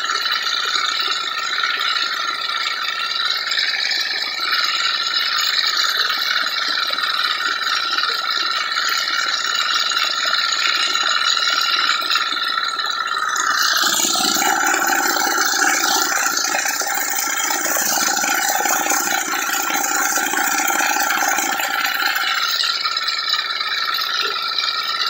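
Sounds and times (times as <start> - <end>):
small tractor engine running: 0.0 - 25.0.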